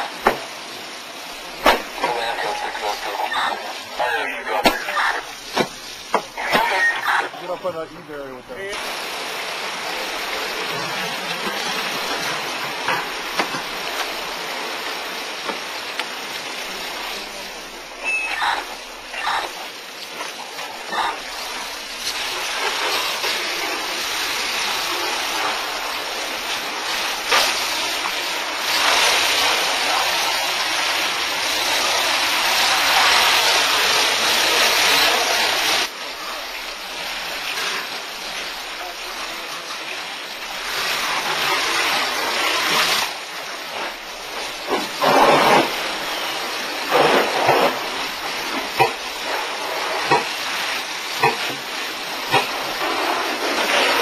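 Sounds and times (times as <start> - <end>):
hose stream splashing on wall: 0.0 - 7.8, 8.6 - 18.0, 18.6 - 54.0.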